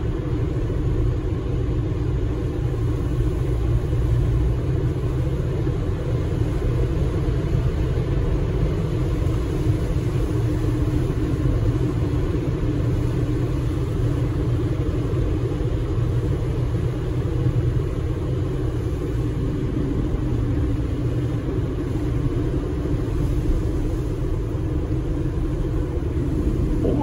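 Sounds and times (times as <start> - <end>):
road and tyre rumble in car: 0.0 - 27.0.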